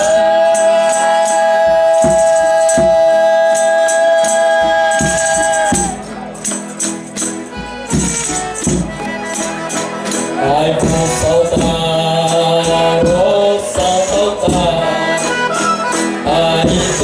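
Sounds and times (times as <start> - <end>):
sung verses: 0.0 - 17.0
tambourine jingles: 0.0 - 17.0
drum strokes: 1.5 - 3.7, 4.4 - 17.0.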